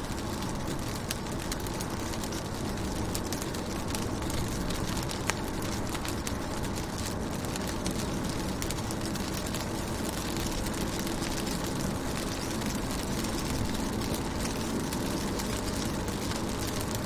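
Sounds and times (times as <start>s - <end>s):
rain on car window: 0.0s - 17.0s.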